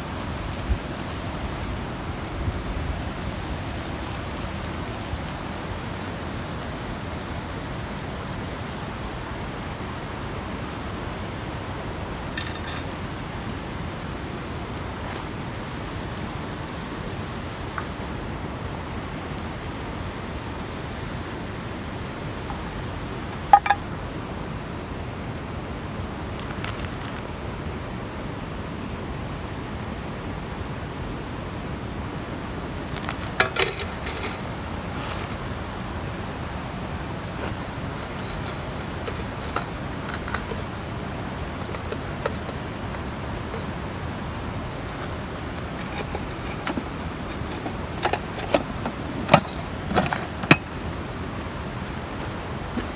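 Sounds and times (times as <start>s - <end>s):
campfire hissing: 0.0s - 25.1s, 32.1s - 52.9s.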